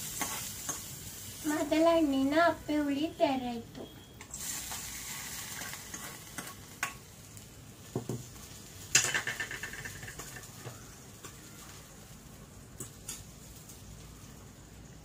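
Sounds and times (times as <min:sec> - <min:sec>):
ghee and spices sizzling: 0:00.0 - 0:15.0.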